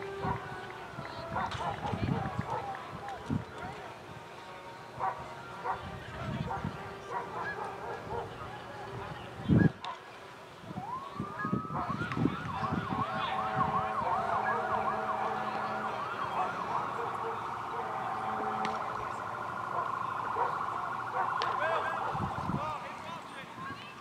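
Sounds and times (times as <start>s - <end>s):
emergency vehicle siren: 0.0s - 3.8s, 4.5s - 9.8s, 10.7s - 23.0s.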